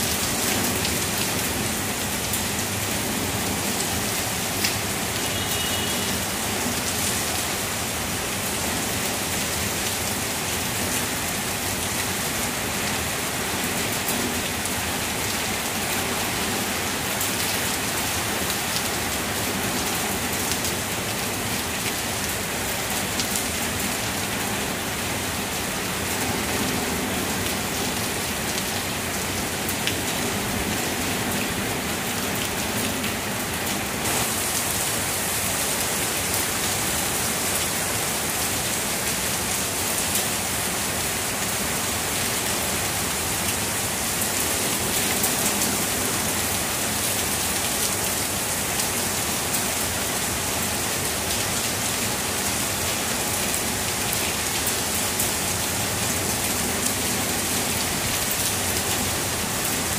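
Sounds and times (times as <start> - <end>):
heavy rain through trees: 0.0 - 59.9.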